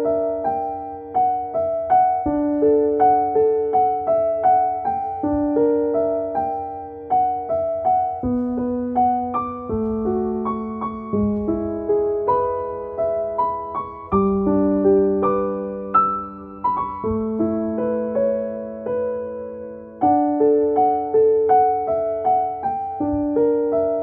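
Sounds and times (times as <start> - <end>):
calm piano music: 0.0 - 24.0.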